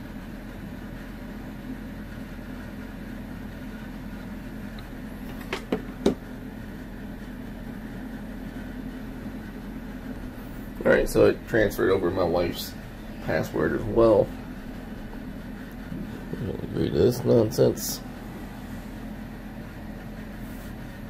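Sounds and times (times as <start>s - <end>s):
mechanical background hum: 0.0s - 21.0s.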